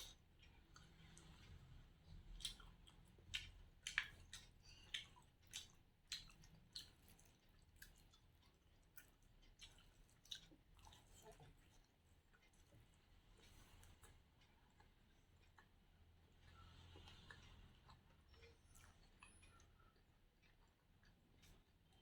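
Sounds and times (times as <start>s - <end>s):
wet chewing and lip smacks: 0.0s - 22.0s.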